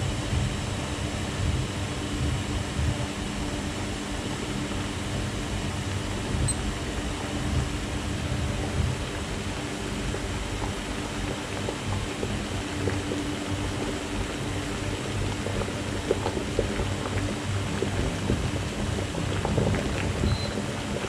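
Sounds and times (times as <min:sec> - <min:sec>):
cooling fan hum: 0:00.0 - 0:21.0
water bubbling at rolling boil: 0:00.0 - 0:21.0.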